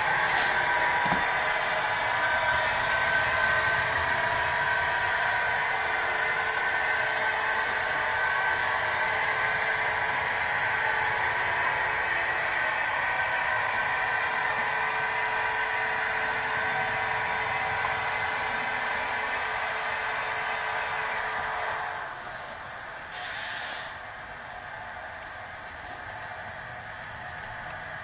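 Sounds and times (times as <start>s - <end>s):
model train whirring hum: 0.0s - 28.0s.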